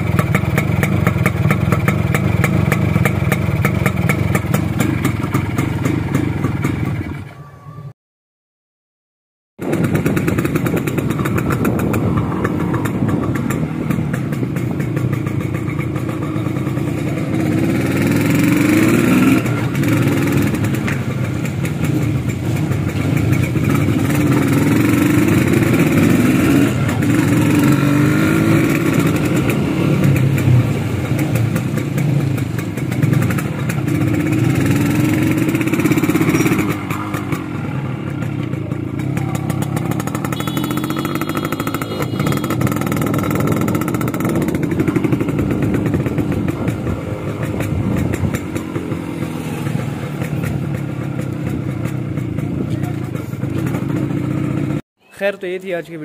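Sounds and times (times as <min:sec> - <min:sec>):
two-stroke motorcycle engine accelerating: 0:00.0 - 0:07.3, 0:09.6 - 0:54.8.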